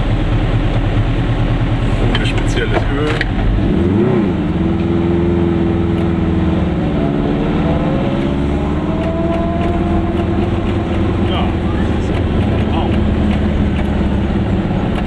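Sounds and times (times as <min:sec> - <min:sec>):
two-stroke car engine running: 0:00.0 - 0:15.0.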